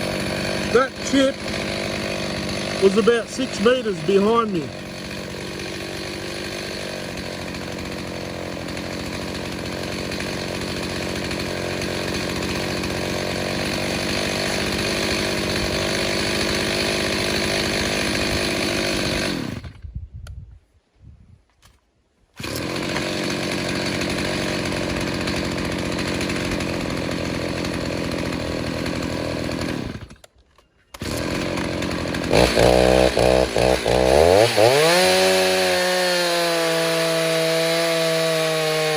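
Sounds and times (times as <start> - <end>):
chainsaw cutting under load: 0.0 - 19.9, 22.3 - 38.9.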